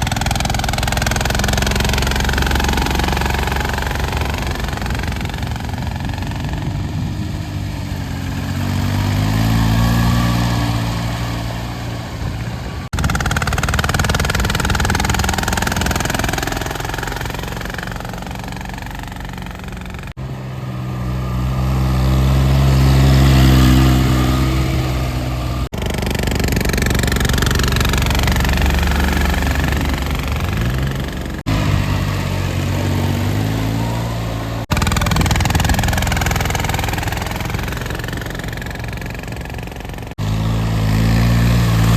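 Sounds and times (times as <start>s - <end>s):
diesel tractor engine revving: 0.0s - 41.9s.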